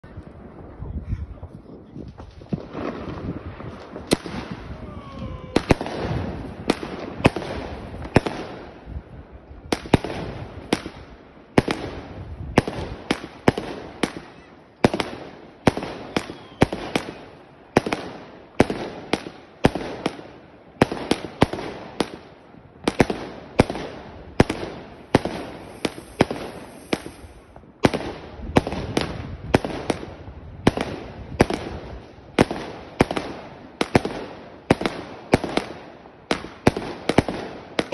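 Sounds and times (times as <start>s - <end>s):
fireworks firing sharp bangs: 2.1s - 9.0s, 9.6s - 37.9s.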